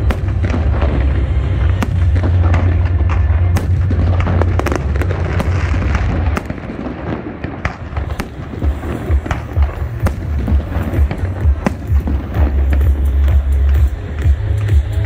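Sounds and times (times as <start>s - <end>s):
fireworks booming: 0.0s - 15.0s
fireworks crackling pops: 0.0s - 15.0s.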